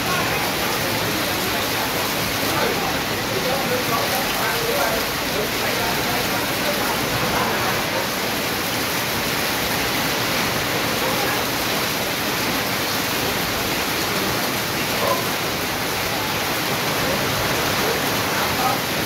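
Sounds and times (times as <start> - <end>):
heavy rain on a metal roof: 0.0 - 19.0
water running off roof: 0.0 - 19.0.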